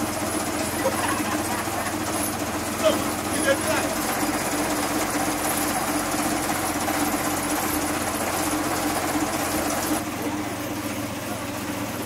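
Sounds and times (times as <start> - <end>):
machine motor rattling and humming: 0.0 - 12.0.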